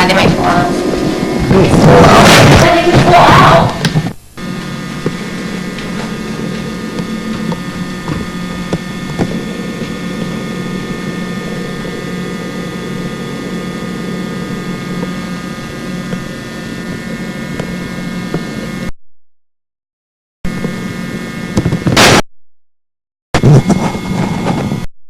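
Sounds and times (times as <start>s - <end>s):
electrical hum and whine: 0.0s - 18.9s, 20.5s - 22.2s, 23.4s - 24.9s.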